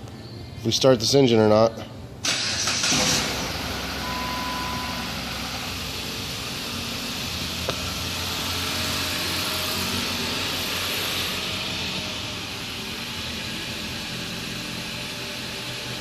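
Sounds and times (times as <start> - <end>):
car engine idling: 2.3 - 16.0.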